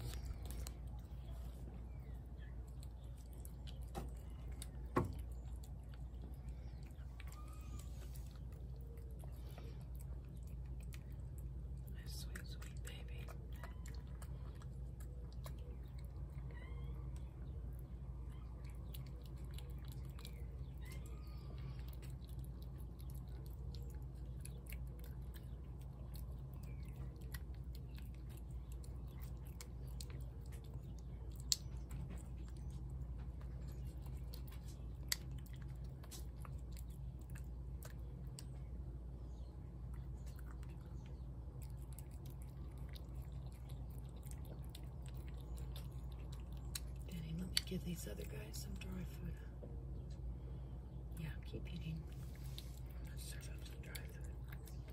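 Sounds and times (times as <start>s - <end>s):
cat chewing wet food: 0.0s - 49.0s, 49.8s - 54.9s
low hum: 0.0s - 54.9s.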